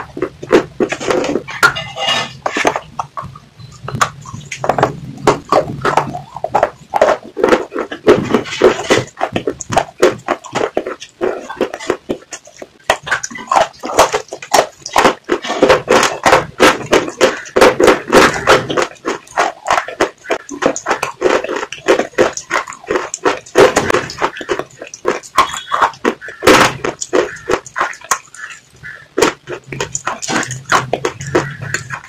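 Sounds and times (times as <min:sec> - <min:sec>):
wet lip smacking and licking: 0:04.0 - 0:32.0.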